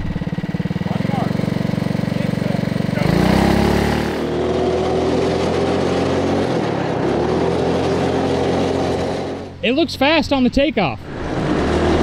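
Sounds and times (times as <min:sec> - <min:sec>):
go-kart engine revving: 0:00.0 - 0:09.8, 0:11.0 - 0:12.0.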